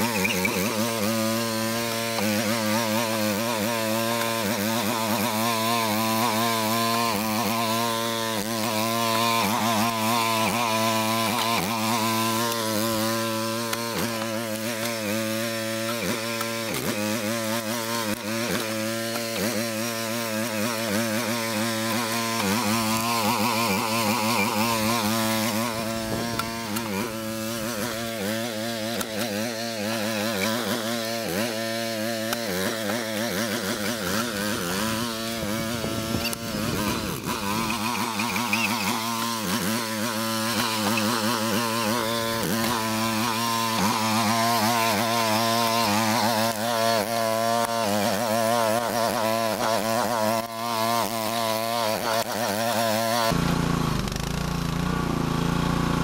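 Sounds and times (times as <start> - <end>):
small gas engine running: 0.0 - 56.0.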